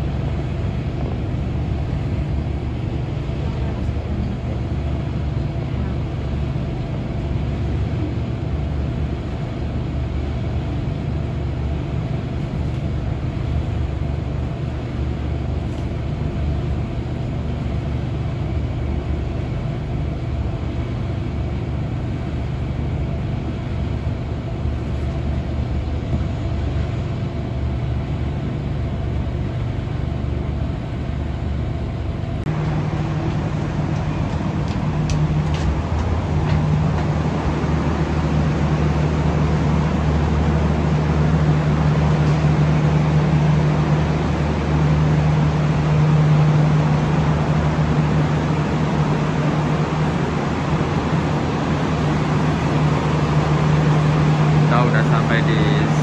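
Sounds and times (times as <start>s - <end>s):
train coach rumble: 0.0s - 56.0s.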